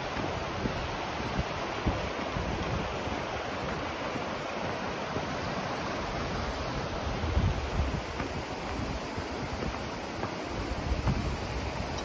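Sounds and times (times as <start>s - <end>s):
river rapids rushing over rocks: 0.0s - 12.0s
wind buffeting microphone: 0.0s - 12.0s.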